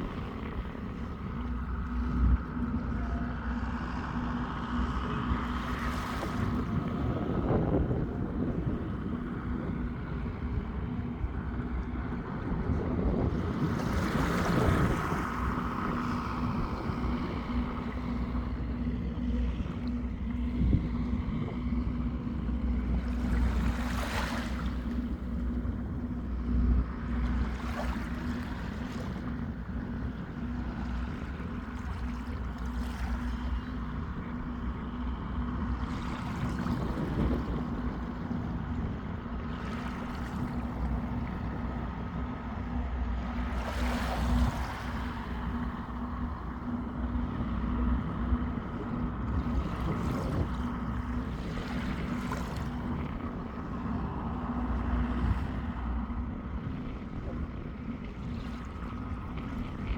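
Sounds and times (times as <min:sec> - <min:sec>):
sea waves washing on shore: 0:00.0 - 0:10.5, 0:11.4 - 0:59.9
steady low hum: 0:00.0 - 0:59.9
wind on microphone: 0:00.0 - 0:59.9.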